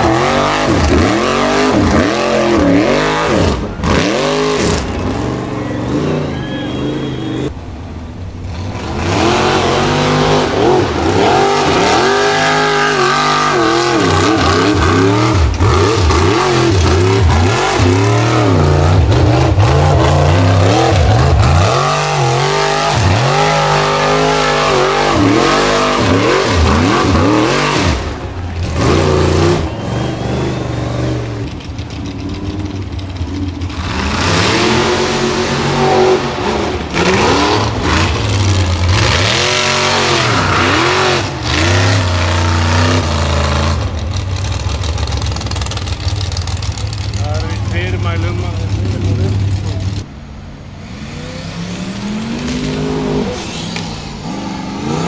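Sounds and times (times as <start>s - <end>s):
buggy engine revving hard: 0.0s - 7.5s, 8.4s - 50.1s, 50.7s - 55.0s.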